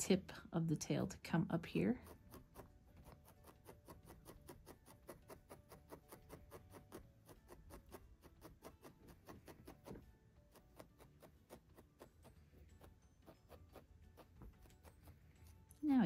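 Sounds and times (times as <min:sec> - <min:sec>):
felting needle poking wool: 0:00.0 - 0:16.0.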